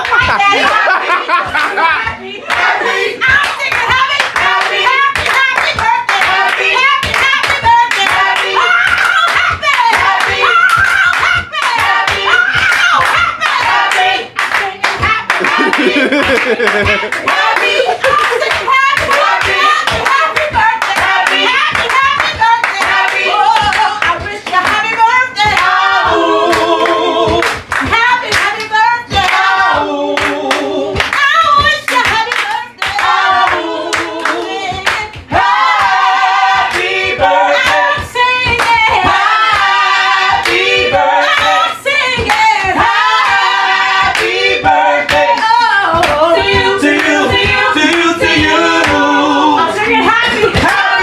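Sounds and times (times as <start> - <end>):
group gospel singing: 0.0 - 51.0
handclap beat: 0.0 - 51.0.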